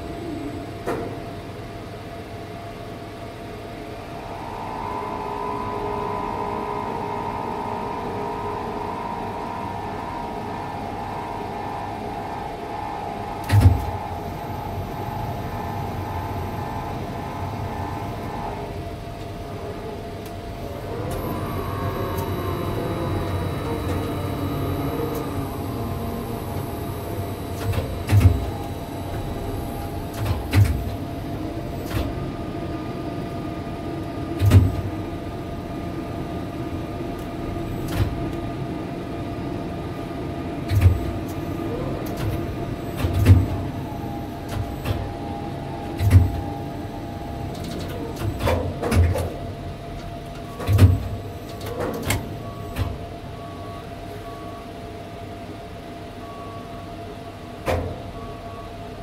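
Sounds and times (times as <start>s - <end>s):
faint steady whine: 0.0s - 59.0s
machinery hum: 0.0s - 59.0s.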